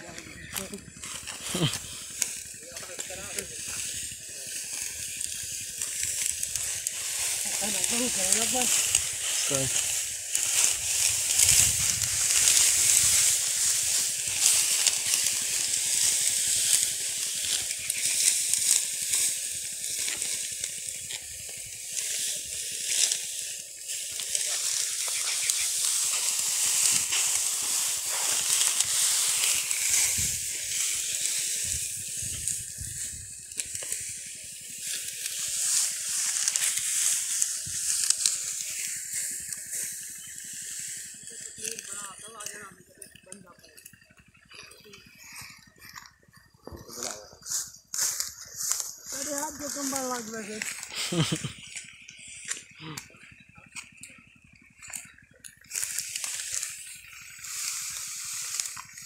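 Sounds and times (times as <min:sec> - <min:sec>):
dry straw rustling and crackling: 0:00.0 - 0:59.0.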